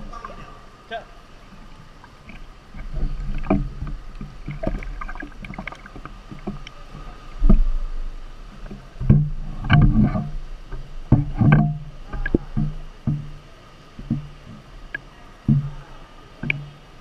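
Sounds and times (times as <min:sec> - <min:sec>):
pool water lapping and splashing: 0:00.0 - 0:17.0.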